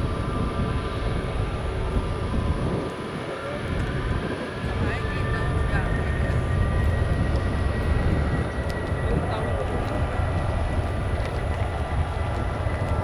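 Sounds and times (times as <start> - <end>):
faint high whine: 0.0 - 13.0
jet engines rumbling: 0.0 - 13.0.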